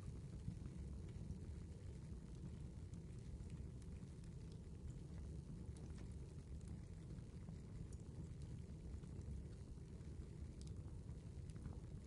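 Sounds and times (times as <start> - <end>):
fire crackles and pops: 0.1 - 12.0.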